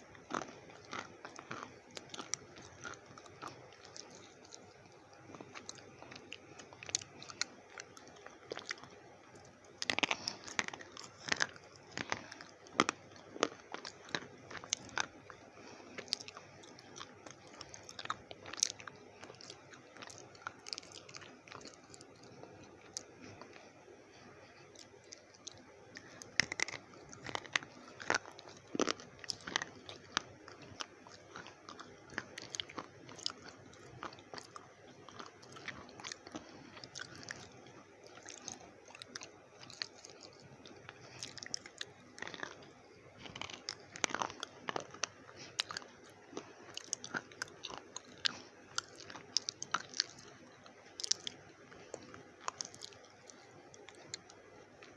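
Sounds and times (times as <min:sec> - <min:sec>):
slate pencils being chewed: 0:00.0 - 0:54.9.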